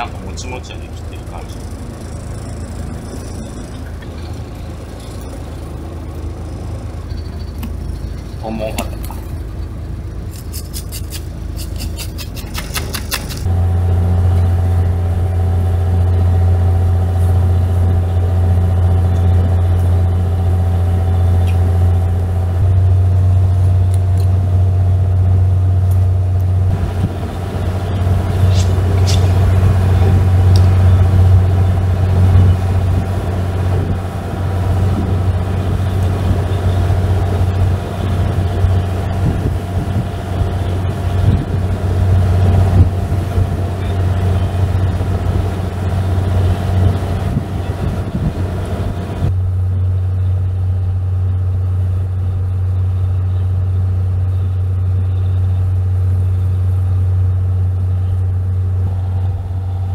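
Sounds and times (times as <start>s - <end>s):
boat engine idling: 0.0s - 59.9s.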